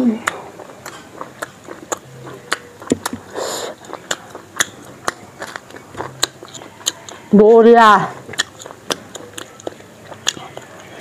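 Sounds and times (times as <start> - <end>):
chewing with mouth clicks: 0.0 - 11.0
food crunch: 0.0 - 11.0.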